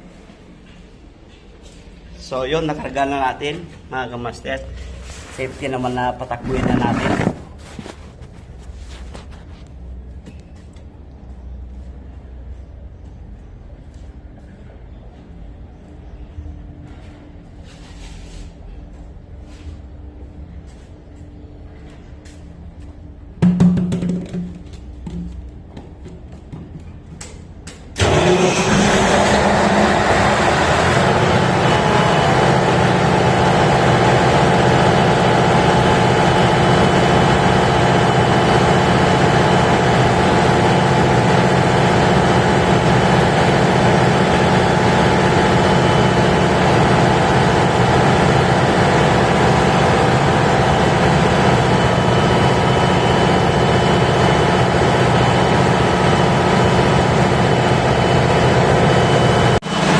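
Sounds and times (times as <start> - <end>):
diesel generator starting and running: 0.0 - 59.9.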